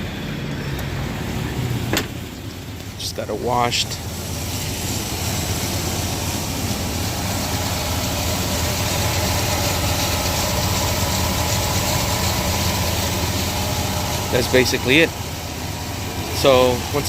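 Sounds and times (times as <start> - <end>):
pickup truck engine idling: 0.0 - 17.0.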